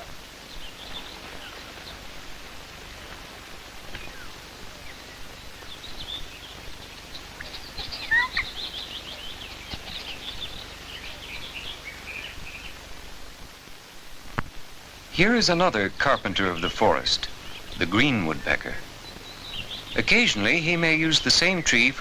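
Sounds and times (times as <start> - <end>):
birds chirping: 0.0 - 22.0
steady hiss: 0.0 - 22.0.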